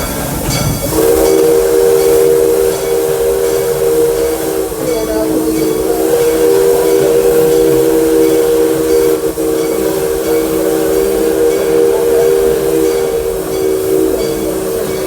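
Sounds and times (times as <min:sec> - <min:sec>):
steam hissing: 0:00.0 - 0:15.0
steam locomotive chime whistle: 0:00.0 - 0:15.0.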